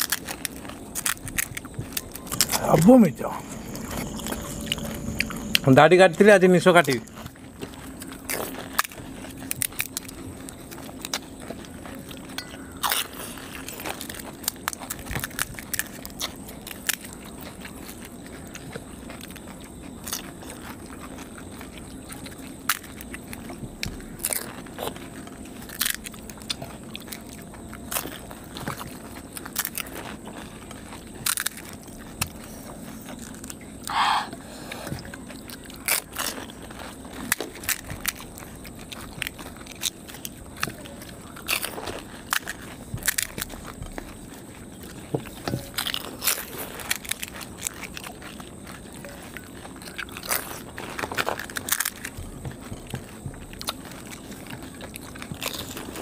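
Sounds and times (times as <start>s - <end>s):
crunchy food being chewed: 0.0s - 56.0s
faint steady hum: 0.0s - 56.0s.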